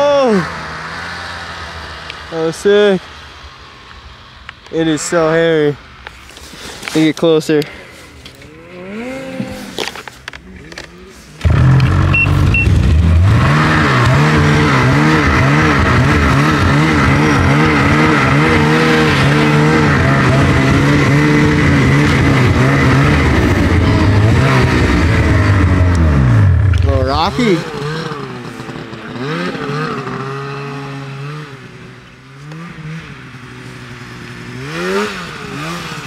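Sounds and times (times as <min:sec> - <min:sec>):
snowmobile engine revving: 0:00.0 - 0:03.6, 0:06.5 - 0:36.0.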